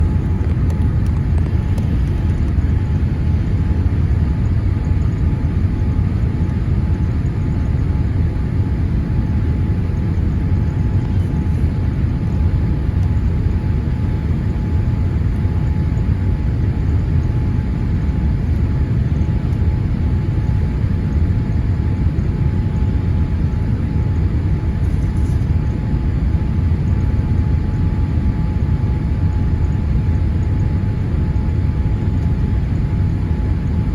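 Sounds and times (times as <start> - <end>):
airplane cabin engine rumble: 0.0 - 33.9
faint steady whine: 0.0 - 33.9.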